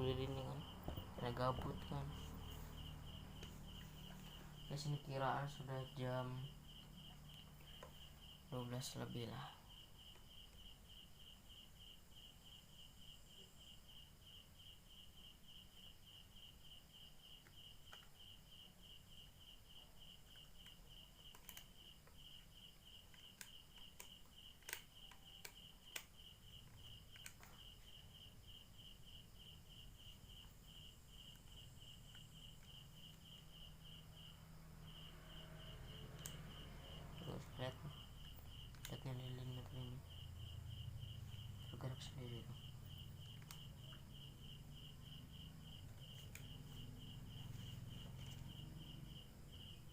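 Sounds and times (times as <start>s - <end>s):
cricket chirping: 0.0s - 49.9s.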